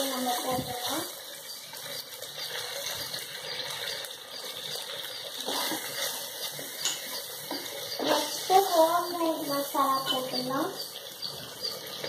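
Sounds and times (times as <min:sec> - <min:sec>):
onions sizzling in hot oil: 0:00.0 - 0:12.0
wooden spatula stirring: 0:00.7 - 0:12.0.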